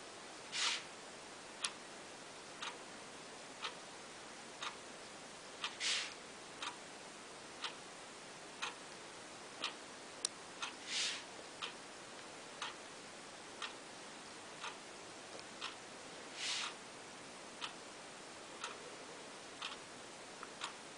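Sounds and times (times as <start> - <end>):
soft hiss: 0.0 - 20.9.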